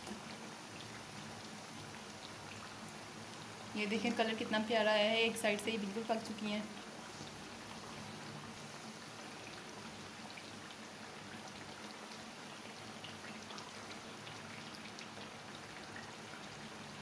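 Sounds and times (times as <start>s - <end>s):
potato cutlets sizzling in oil: 0.0s - 17.0s.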